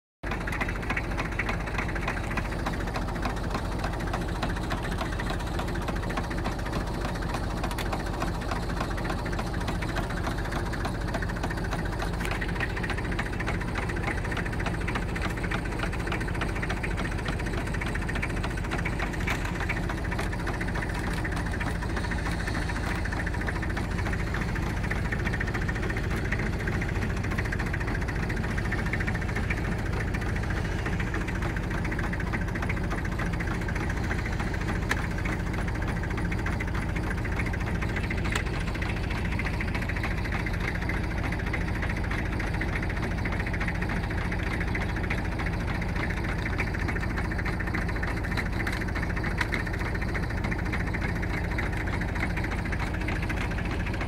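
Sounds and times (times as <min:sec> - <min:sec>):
tractor engine running: 0:00.2 - 0:54.0.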